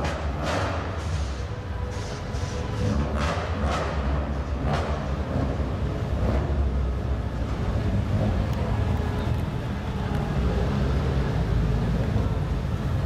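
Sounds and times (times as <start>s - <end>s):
indoor crowd rumble: 0.0s - 13.0s.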